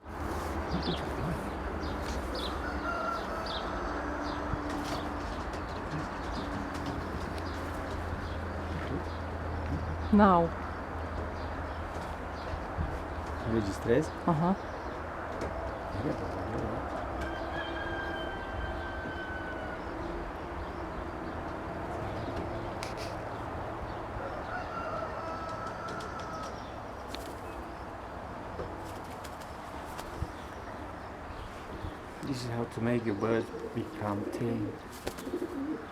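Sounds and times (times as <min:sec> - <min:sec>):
pigeons cooing: 0:00.0 - 0:09.6, 0:14.6 - 0:28.0, 0:28.6 - 0:35.9
steady background noise: 0:00.0 - 0:35.9.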